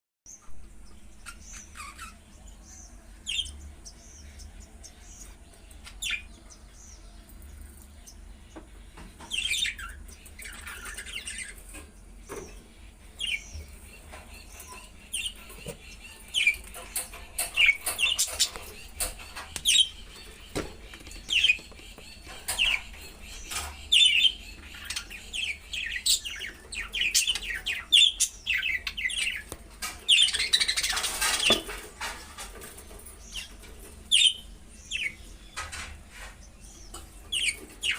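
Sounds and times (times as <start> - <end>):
budgerigars chirping: 0.8 - 7.0, 8.0 - 31.9, 36.4 - 37.9.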